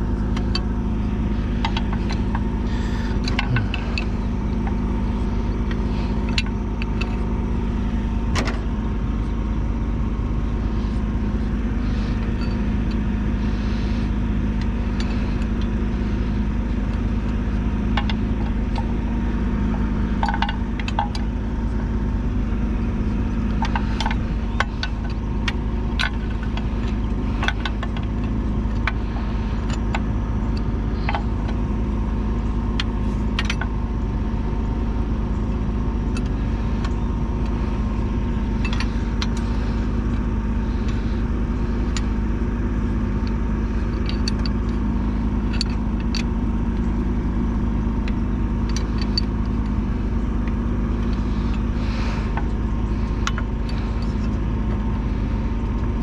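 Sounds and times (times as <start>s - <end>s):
sharp clicks and clanks: 0.0s - 7.6s, 13.8s - 21.8s, 22.6s - 56.0s
bulldozer diesel engine running: 0.0s - 56.0s.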